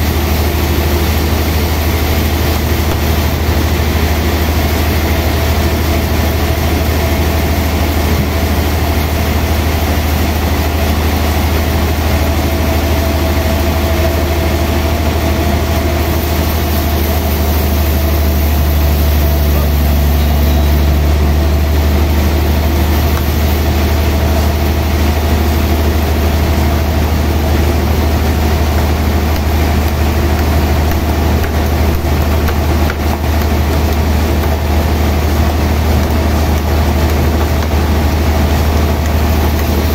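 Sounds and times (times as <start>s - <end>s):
band sawmill cutting log: 0.0s - 39.9s
saw blade whine: 0.0s - 39.9s.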